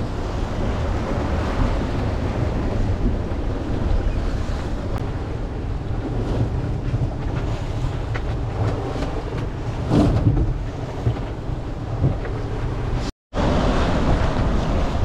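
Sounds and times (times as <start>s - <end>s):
waves rushing along hull: 0.0s - 15.0s
wind buffeting microphone: 0.0s - 15.0s.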